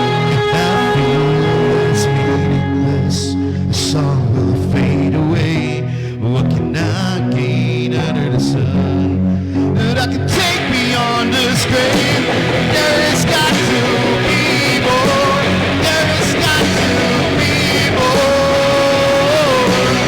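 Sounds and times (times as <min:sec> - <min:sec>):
person singing: 0:00.0 - 0:09.2, 0:09.8 - 0:20.0
electric guitar: 0:00.0 - 0:20.0
rock song: 0:00.0 - 0:20.0.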